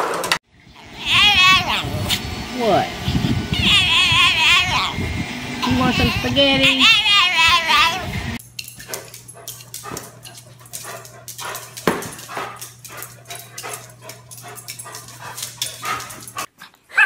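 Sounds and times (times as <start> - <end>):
steady low hum: 0.5 - 16.5
dog barking and whining: 0.8 - 2.3, 3.5 - 5.1, 5.7 - 8.1, 8.8 - 17.0.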